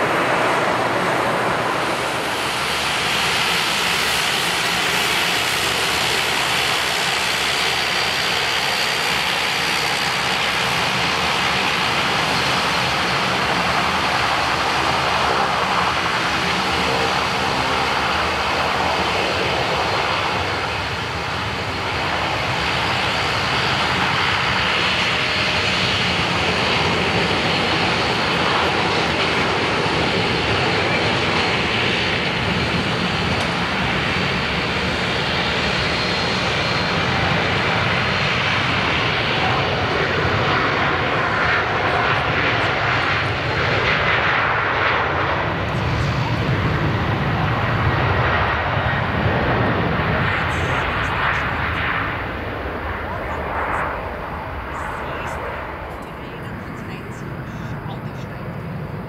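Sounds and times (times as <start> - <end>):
jet engines roaring on takeoff: 0.0 - 59.0.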